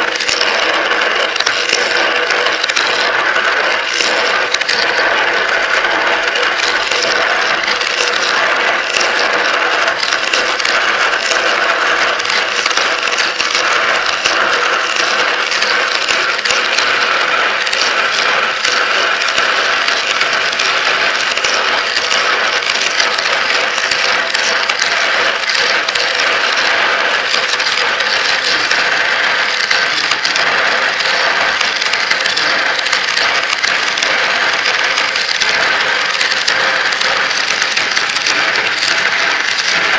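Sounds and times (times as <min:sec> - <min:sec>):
marbles clattering through track: 0:00.0 - 0:39.9.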